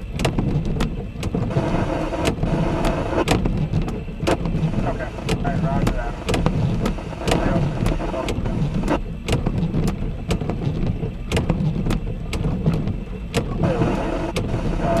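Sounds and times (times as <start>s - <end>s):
low steady thunder rumble: 0.0s - 15.0s
raindrops tapping near microphone: 0.0s - 15.0s.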